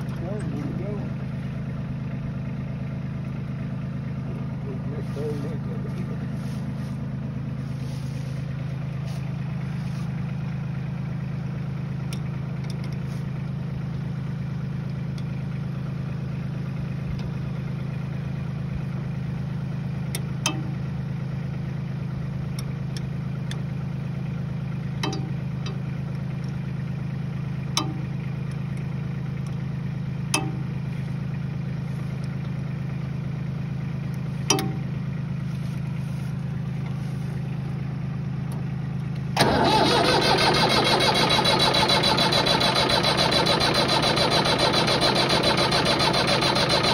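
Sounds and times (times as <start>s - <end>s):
tractor engine idling: 0.0s - 46.9s.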